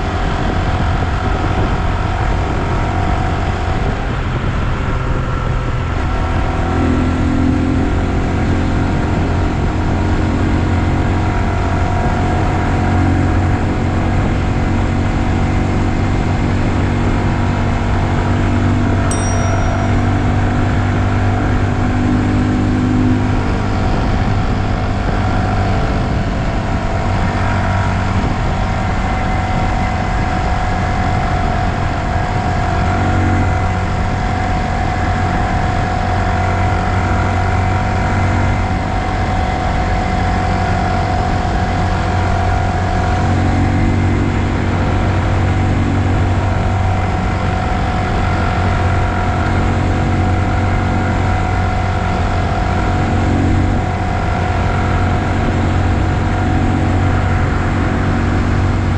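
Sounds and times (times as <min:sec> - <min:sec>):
motorcycle engine running steadily: 0:00.0 - 0:58.9.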